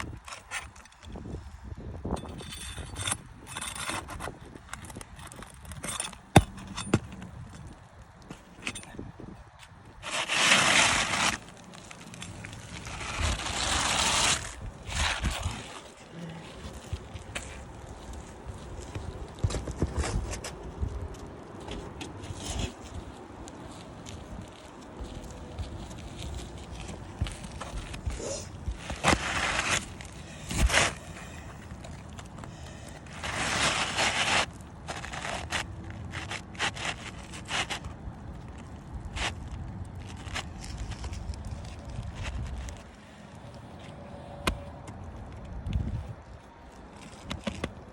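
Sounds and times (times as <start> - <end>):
rough scraping and crunching: 0.0 - 47.9.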